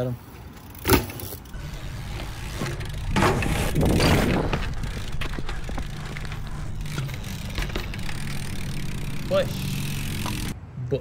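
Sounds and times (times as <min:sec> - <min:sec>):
bike tyres rolling on concrete: 0:00.6 - 0:10.6.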